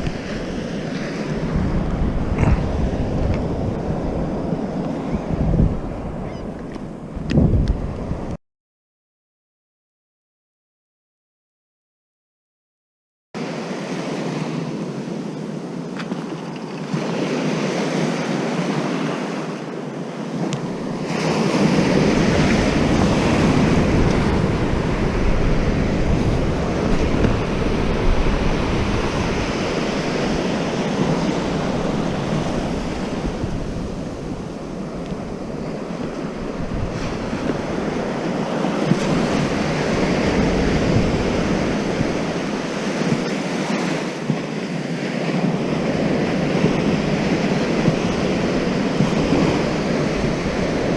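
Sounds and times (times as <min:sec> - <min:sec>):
surf breaking on beach: 0:00.0 - 0:06.2, 0:13.4 - 0:50.9
wind buffeting microphone: 0:00.0 - 0:08.4, 0:14.6 - 0:50.9.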